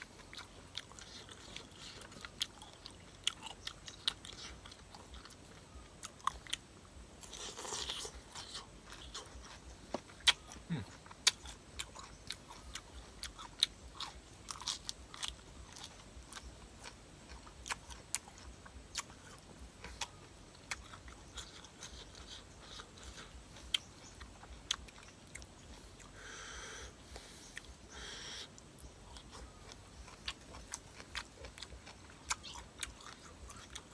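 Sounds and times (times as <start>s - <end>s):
chewing and crunching: 0.0s - 33.9s.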